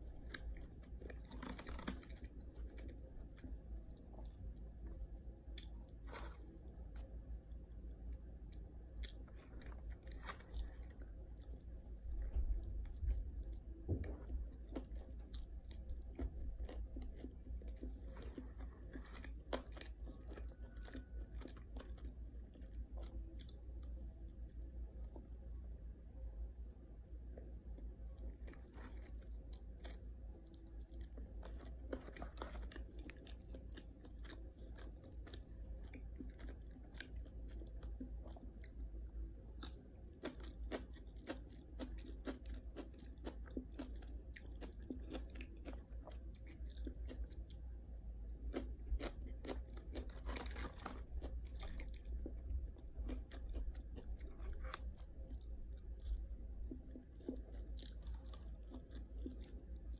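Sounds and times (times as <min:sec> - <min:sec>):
crisp chewing crunches: 0:00.0 - 0:04.9, 0:05.5 - 0:25.4, 0:27.4 - 0:59.9
low hum: 0:00.0 - 0:59.9.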